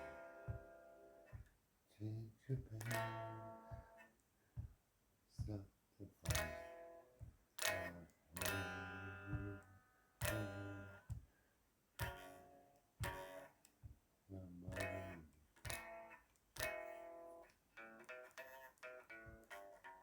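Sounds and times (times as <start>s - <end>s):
guitar chords strummed: 0.0s - 1.5s, 2.5s - 4.7s, 5.4s - 11.2s, 12.0s - 20.0s.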